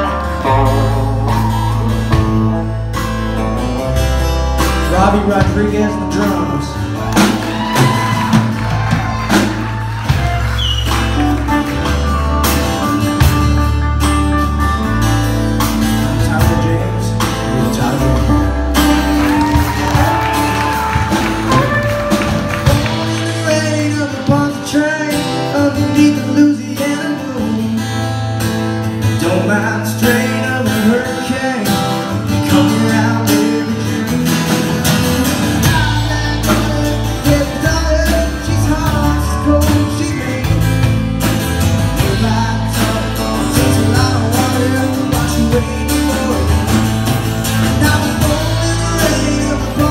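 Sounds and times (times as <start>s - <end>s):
country rock band playing: 0.0s - 49.9s.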